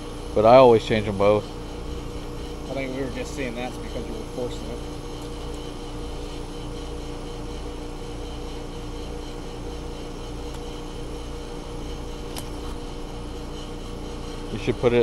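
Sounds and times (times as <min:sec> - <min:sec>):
compressor hum: 0:00.0 - 0:15.0
condenser fan rushing: 0:00.0 - 0:15.0.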